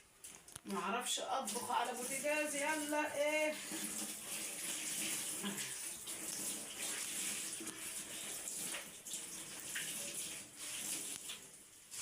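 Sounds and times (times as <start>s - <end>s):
water running from a tap: 1.1s - 12.0s.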